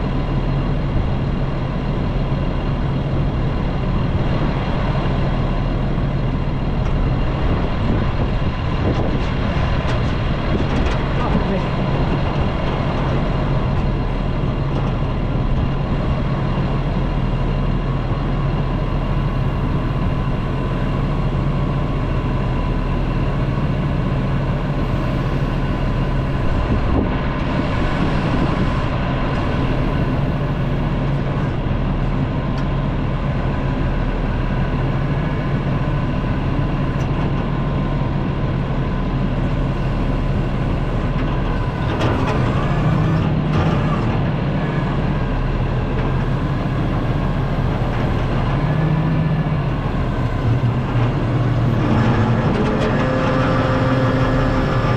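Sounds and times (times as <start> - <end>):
heavy equipment diesel engine: 0.0 - 54.9
steady whine: 0.0 - 54.9.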